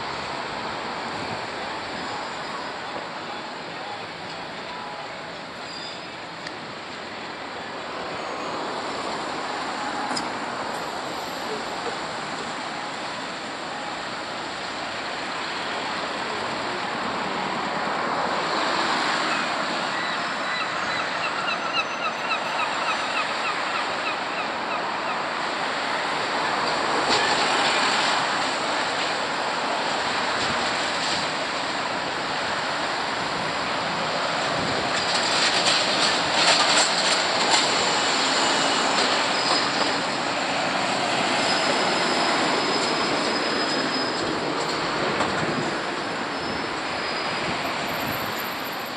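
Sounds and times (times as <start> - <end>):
street traffic: 0.0 - 48.9.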